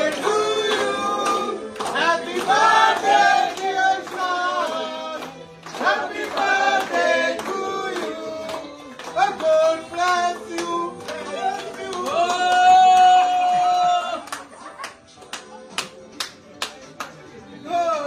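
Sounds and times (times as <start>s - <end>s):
hands clapping: 0.0s - 17.4s
person singing with music: 0.0s - 18.0s.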